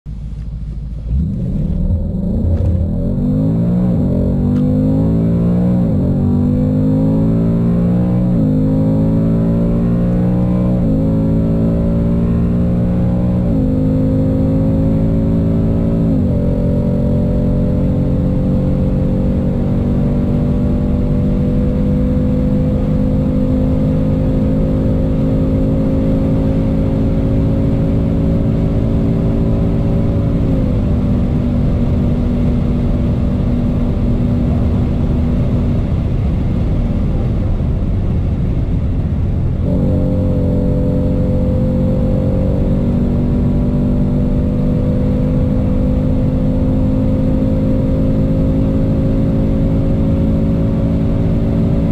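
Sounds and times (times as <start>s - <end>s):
car engine at high revs: 0.1s - 51.9s
wind and tyre roar: 0.1s - 51.9s.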